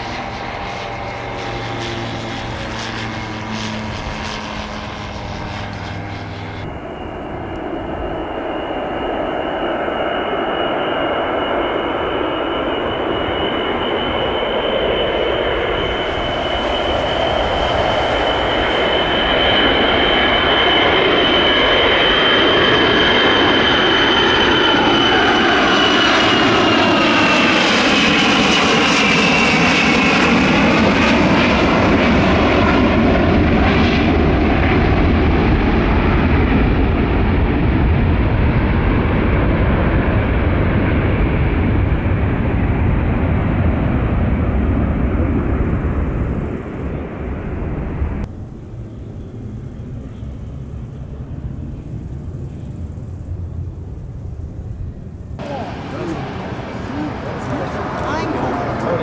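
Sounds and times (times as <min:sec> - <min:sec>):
jet engines roaring past: 0:00.0 - 0:59.0.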